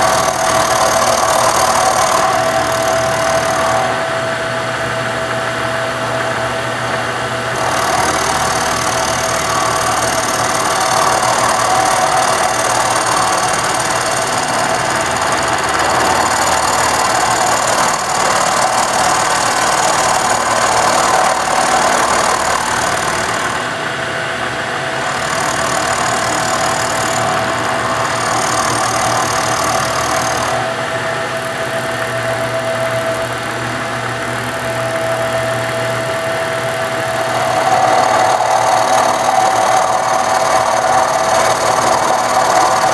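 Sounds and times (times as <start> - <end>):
end mill cutting wood: 0.0 - 42.9
milling machine whine: 0.0 - 42.9.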